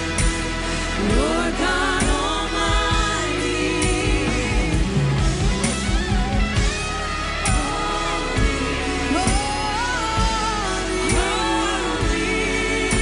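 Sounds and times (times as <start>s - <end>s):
drum beats: 0.0s - 13.0s
sustained bass: 0.0s - 13.0s.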